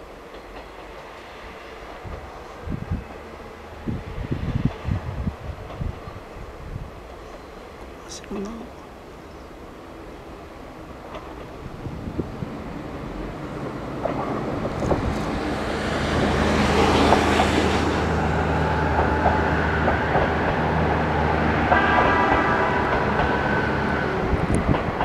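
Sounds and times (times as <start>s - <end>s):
diesel railcar engine humming: 0.0s - 25.0s.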